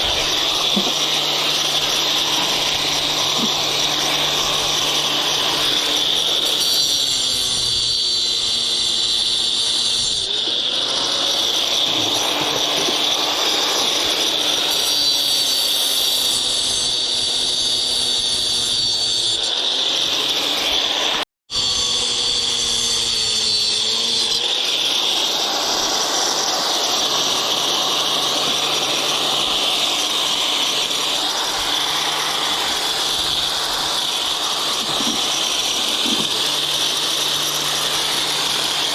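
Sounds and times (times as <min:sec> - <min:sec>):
power tool motor whirring: 0:00.0 - 0:38.9.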